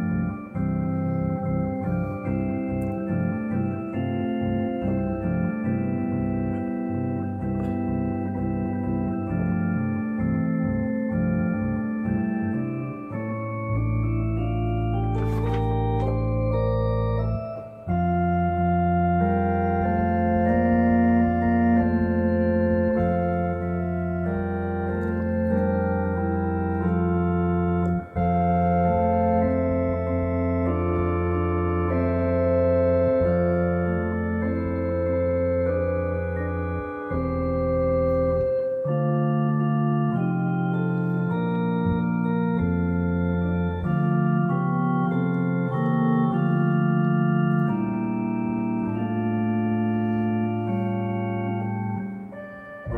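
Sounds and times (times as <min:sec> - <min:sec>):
electronic organ chords: 0:00.0 - 0:52.9.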